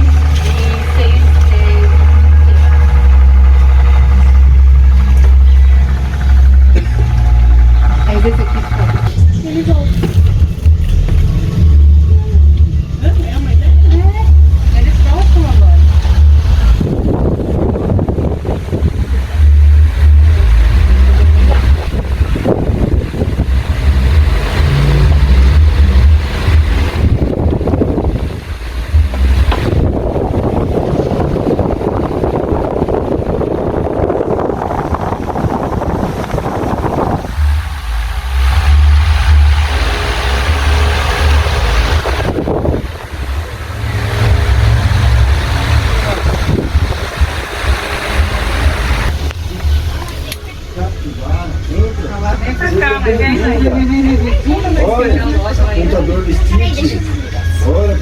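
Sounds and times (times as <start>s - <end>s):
fan air buffeting microphone: 0.0s - 58.0s.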